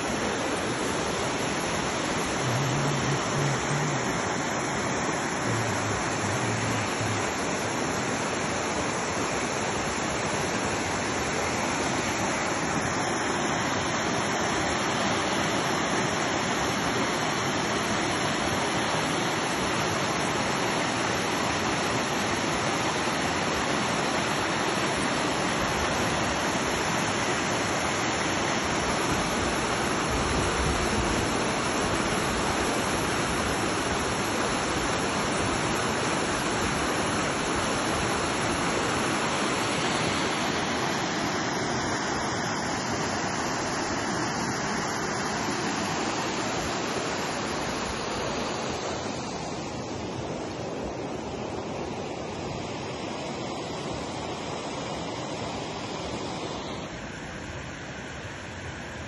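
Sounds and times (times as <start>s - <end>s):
river water rushing over rapid: 0.0s - 59.0s.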